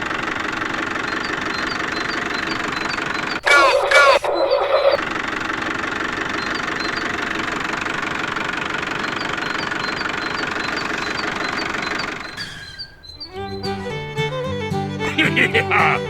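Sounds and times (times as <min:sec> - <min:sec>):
small motor rattling: 0:00.0 - 0:03.4, 0:05.0 - 0:14.6.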